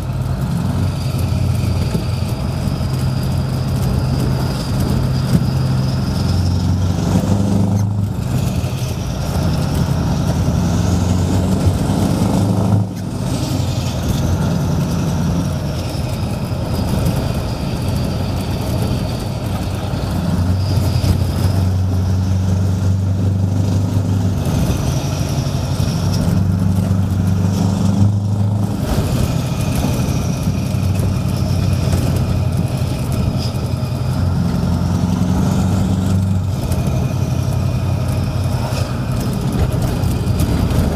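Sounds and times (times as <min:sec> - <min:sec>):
truck engine with loud exhaust: 0:00.0 - 0:40.9.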